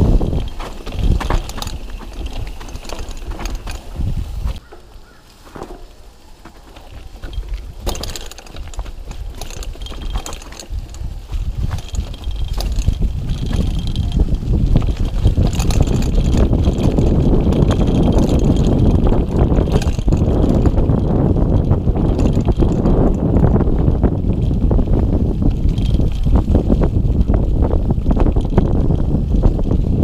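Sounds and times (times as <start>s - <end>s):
wind buffeting microphone: 0.0s - 5.7s, 6.5s - 30.0s
bike rattles and clicks: 0.0s - 30.0s
tyres rumbling over dirt: 0.0s - 30.0s.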